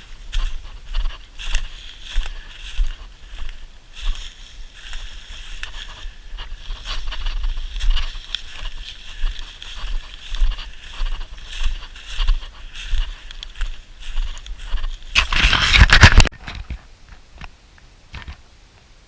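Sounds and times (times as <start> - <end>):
footsteps crunching through dry leaves: 0.0 - 16.3
wind rumbling on microphone: 0.0 - 17.4.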